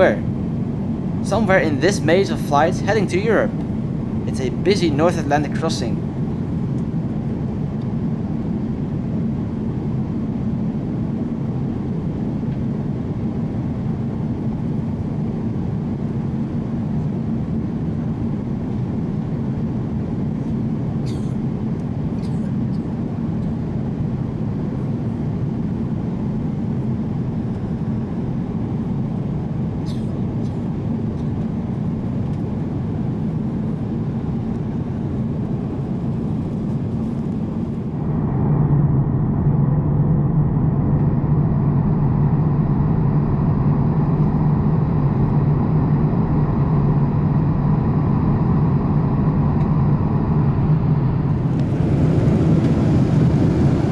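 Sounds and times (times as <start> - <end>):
airplane cabin noise: 0.0 - 39.8, 49.0 - 53.9.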